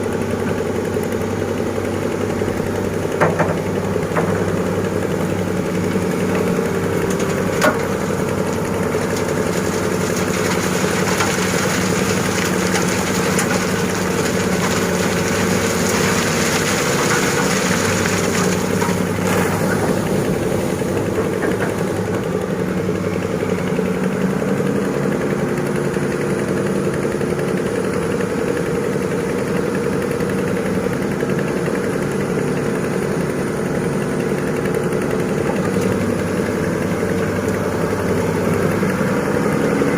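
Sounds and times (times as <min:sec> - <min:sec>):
diesel machinery engine running: 0:00.0 - 0:39.9.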